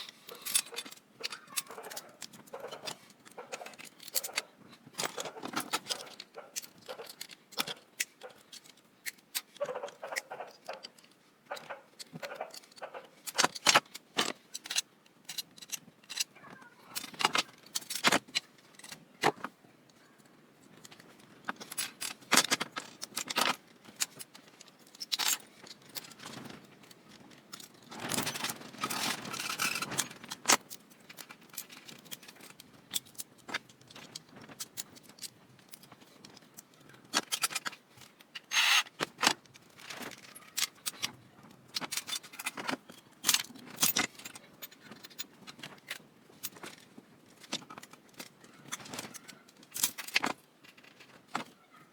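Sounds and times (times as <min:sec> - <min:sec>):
metal parts clicking and clinking: 0:00.0 - 0:19.5, 0:20.8 - 0:51.5
continuous noise: 0:00.0 - 0:51.9.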